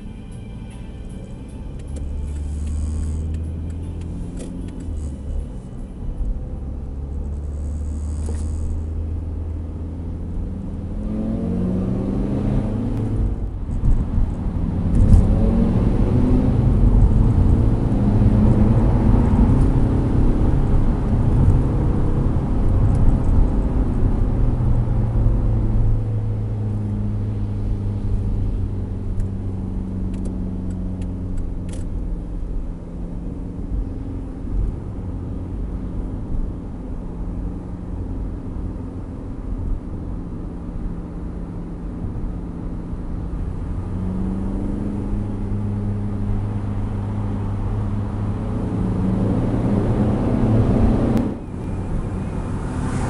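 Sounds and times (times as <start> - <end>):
diesel engine droning: 0.0 - 53.0
road noise: 0.0 - 53.0.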